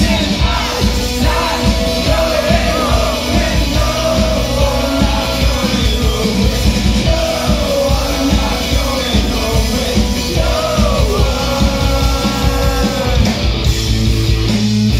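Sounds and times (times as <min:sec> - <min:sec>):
man singing: 0:00.0 - 0:13.4
bass guitar: 0:00.0 - 0:14.9
electric guitar: 0:00.0 - 0:14.9
steady drum beat: 0:00.0 - 0:14.9.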